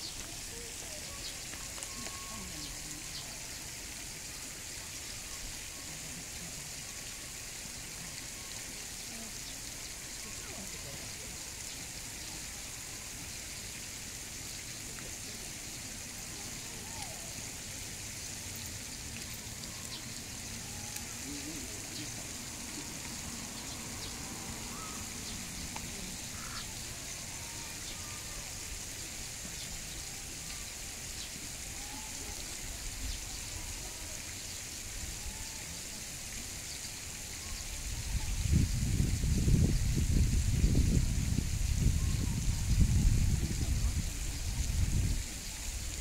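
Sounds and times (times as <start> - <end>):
steady high hiss: 0.0 - 46.0.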